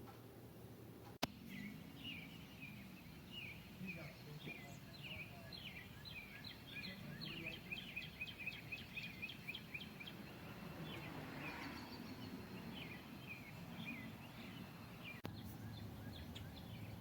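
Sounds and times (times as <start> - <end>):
outdoor background hum: 0.0 - 17.0
small birds chirping: 1.2 - 17.0.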